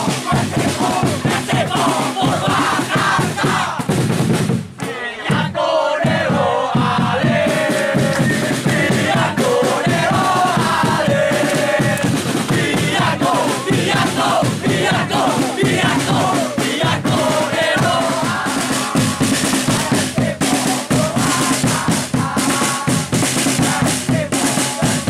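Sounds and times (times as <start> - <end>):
crowd chanting: 0.0 - 3.9, 4.8 - 25.0
rhythmic backing: 0.0 - 25.0.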